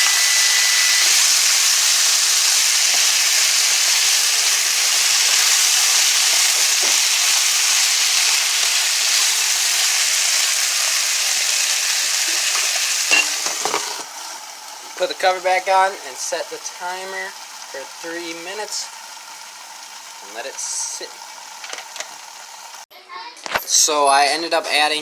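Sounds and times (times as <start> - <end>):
food sizzling in a pan: 0.0 - 22.9.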